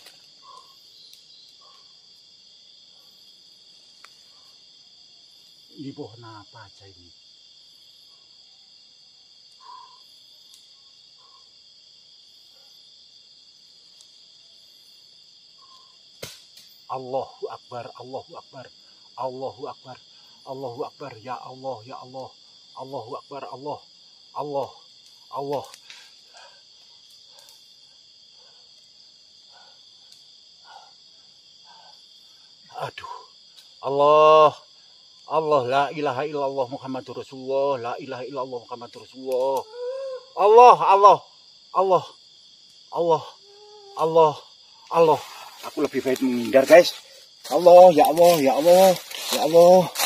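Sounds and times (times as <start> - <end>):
crickets and insects chirping: 0.0 - 50.0.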